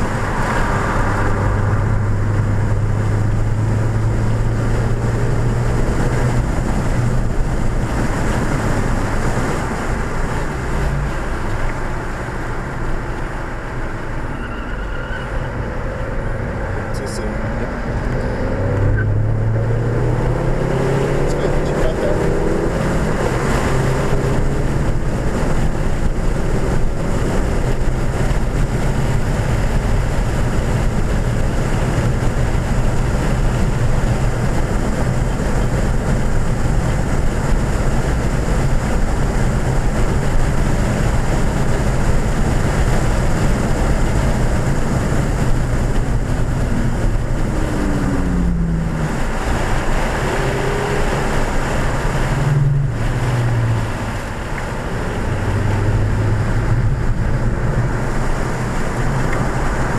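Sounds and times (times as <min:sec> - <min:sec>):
car engine pulling: 0:00.0 - 0:59.9
wind and road noise: 0:00.0 - 0:59.9.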